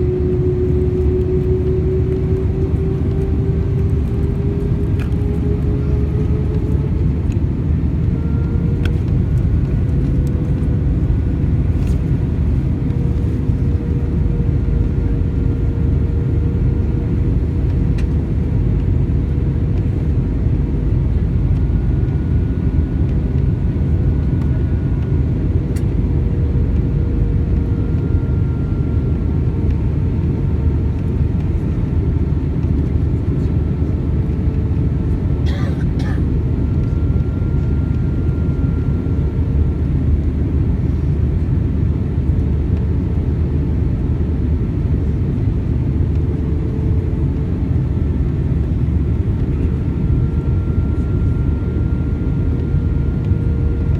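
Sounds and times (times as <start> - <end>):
jet engines humming: 0.0 - 53.9.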